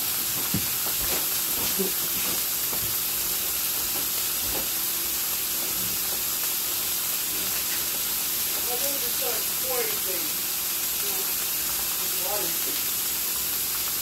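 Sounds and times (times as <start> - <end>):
steak sizzling in a pan: 0.0 - 14.0.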